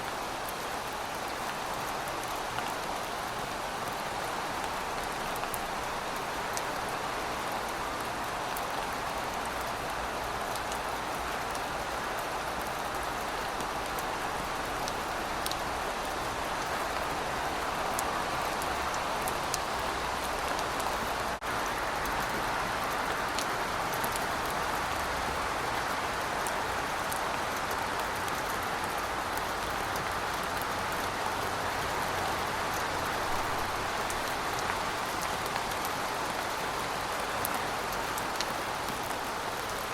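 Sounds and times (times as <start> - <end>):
rain falling on pavement: 0.0 - 39.9.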